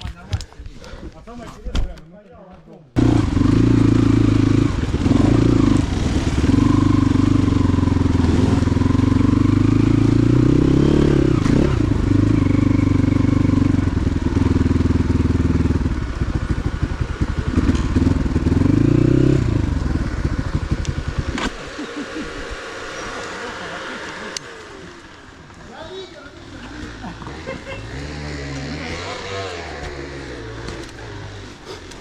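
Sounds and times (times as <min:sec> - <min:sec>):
motorcycle engine revving: 0:03.0 - 0:32.0.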